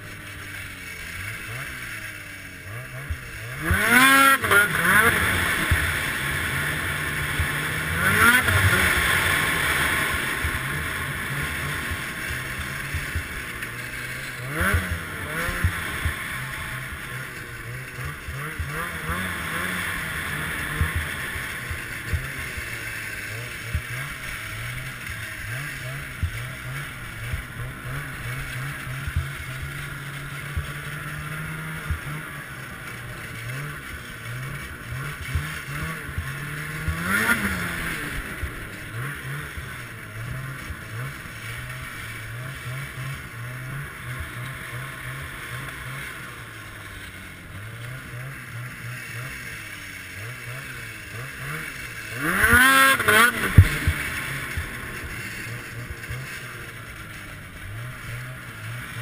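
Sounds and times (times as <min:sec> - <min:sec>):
snowmobile engine running: 0:00.0 - 0:59.0
hiss of track and wind: 0:03.2 - 0:59.0.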